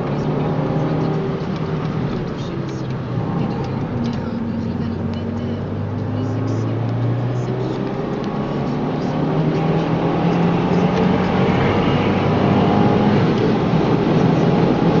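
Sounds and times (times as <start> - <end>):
car engine accelerating: 0.0 - 15.0
road and wind noise: 0.0 - 15.0.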